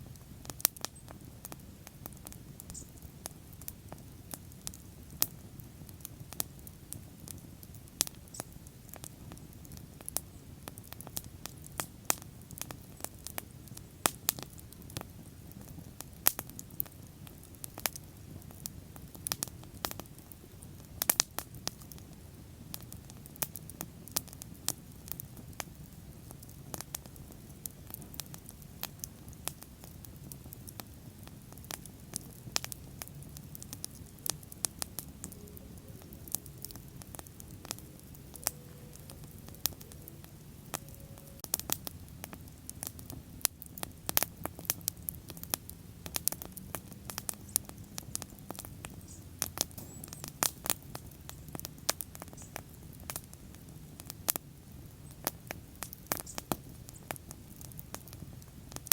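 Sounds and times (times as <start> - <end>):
low rush of flames: 0.0 - 58.9
wood bonfire crackling and popping: 0.0 - 58.9.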